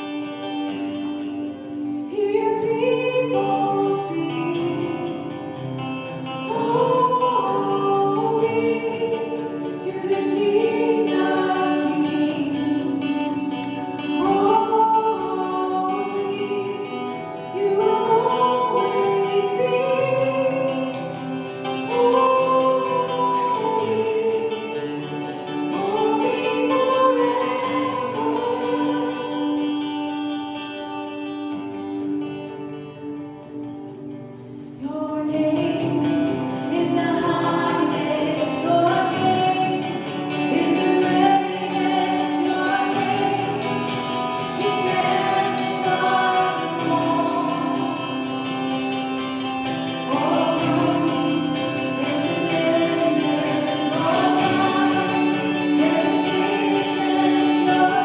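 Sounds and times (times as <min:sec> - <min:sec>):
guitar: 0:00.0 - 0:58.0
person singing gospel song: 0:01.6 - 0:31.1, 0:34.8 - 0:58.0.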